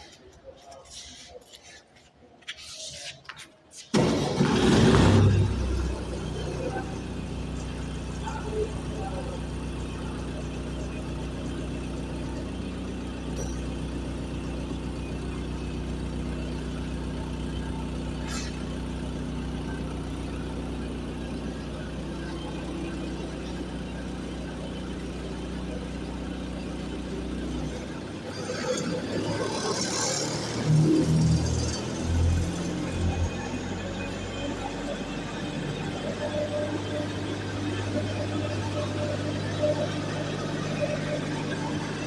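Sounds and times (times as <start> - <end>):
diesel generator running: 3.8 - 42.0.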